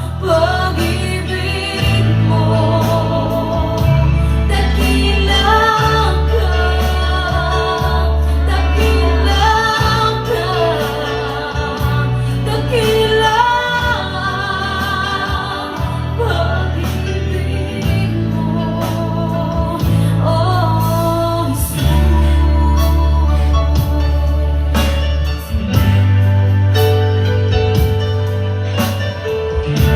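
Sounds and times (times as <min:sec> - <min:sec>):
instrumental accompaniment: 0:00.0 - 0:29.9.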